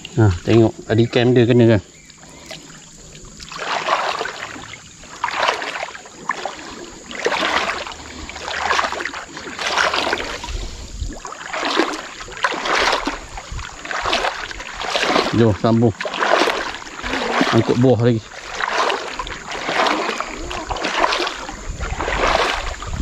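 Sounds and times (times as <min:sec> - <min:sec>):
wading through water: 0:00.0 - 0:23.0.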